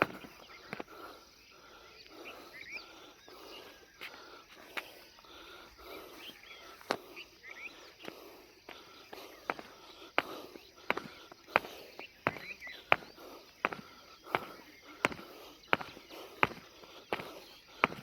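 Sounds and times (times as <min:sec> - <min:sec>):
birds chirping: 0:00.0 - 0:18.0
faint insect drone: 0:00.0 - 0:18.0
footsteps on a road: 0:00.0 - 0:18.0.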